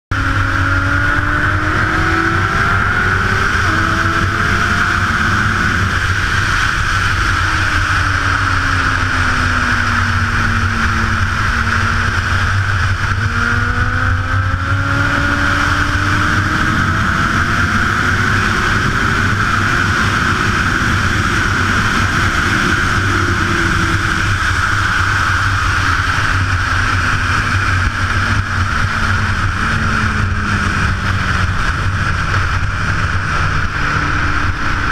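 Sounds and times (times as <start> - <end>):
motorcycle engine revving: 0.1 - 34.9
wind rushing over microphone: 0.1 - 34.9.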